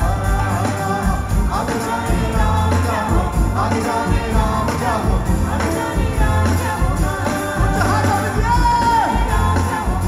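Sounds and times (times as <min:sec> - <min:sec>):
live rock band: 0:00.0 - 0:10.0.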